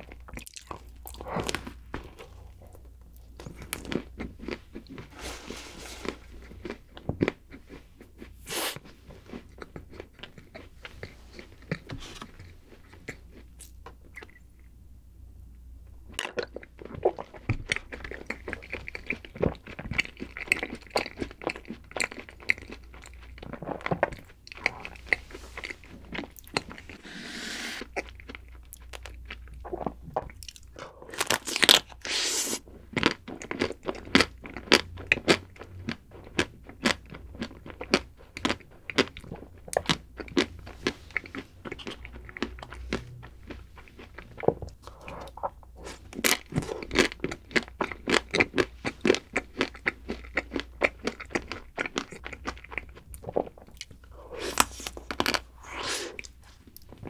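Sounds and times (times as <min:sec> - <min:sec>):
crunching and chewing ice cream: 0:00.0 - 0:14.7, 0:16.1 - 0:27.0, 0:27.8 - 0:57.0.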